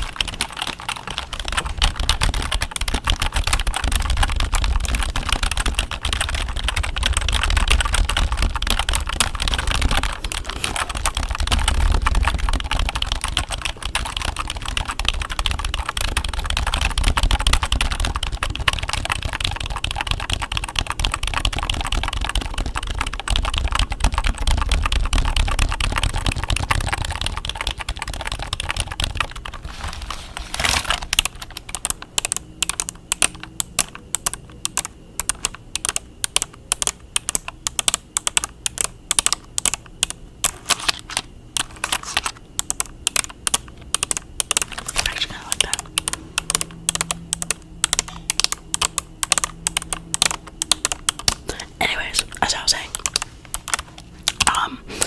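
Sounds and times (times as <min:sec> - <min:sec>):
keyboard typing clatter: 0:00.0 - 0:29.7, 0:30.4 - 0:54.7.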